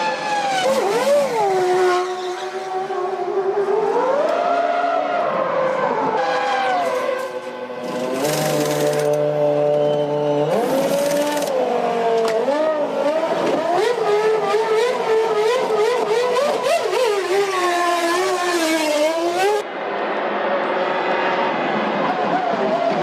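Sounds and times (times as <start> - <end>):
racing car engine revving: 0.0 - 19.6.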